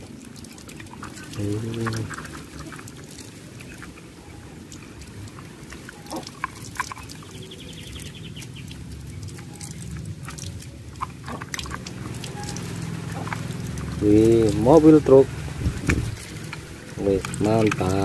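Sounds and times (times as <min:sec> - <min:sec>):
water splashing on plastic toy: 0:00.0 - 0:18.0.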